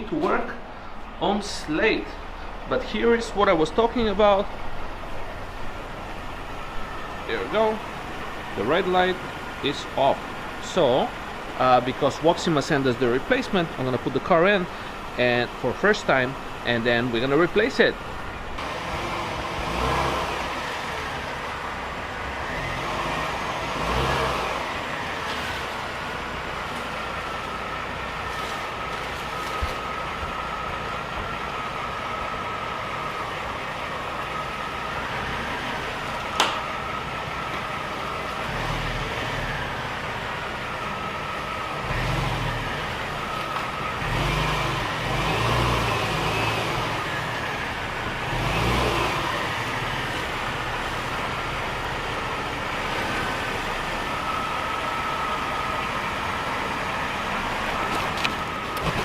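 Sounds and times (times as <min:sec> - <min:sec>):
car engine revving at low speed: 0:01.9 - 0:59.0.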